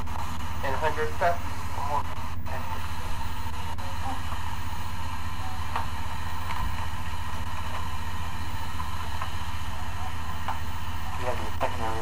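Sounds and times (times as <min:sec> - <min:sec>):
constant hiss: 0:00.0 - 0:12.0
steady low hum: 0:00.0 - 0:12.0.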